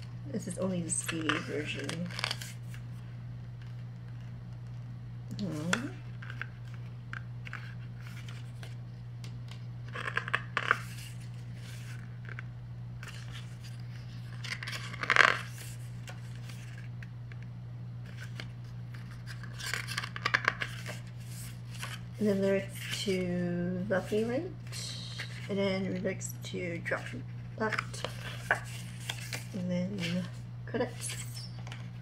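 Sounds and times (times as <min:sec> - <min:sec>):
steady low hum: 0:00.0 - 0:32.0
paper booklet rustling: 0:00.6 - 0:32.0.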